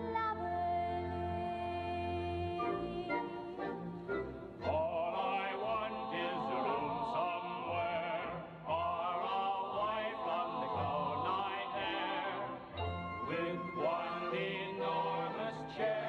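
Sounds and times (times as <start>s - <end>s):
musical accompaniment: 0.0s - 16.0s.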